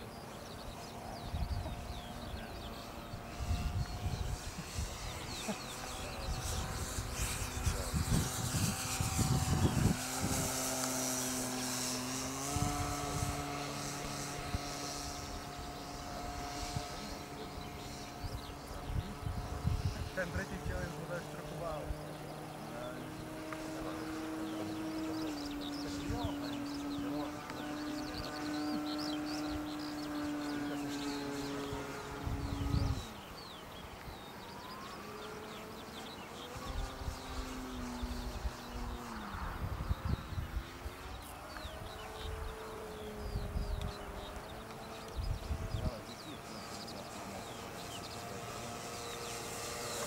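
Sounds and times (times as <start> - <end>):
birds chirping: 0.0 - 50.0
model plane motor whine: 0.0 - 50.0
wind rumbling on microphone: 0.0 - 50.0.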